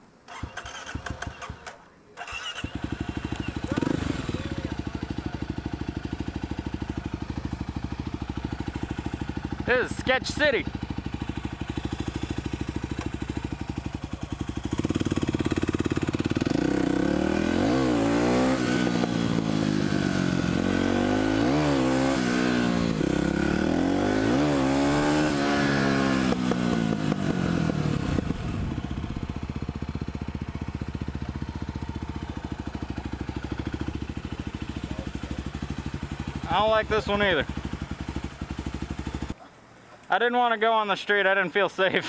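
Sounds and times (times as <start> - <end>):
motorcycle engine revving: 0.3 - 39.4.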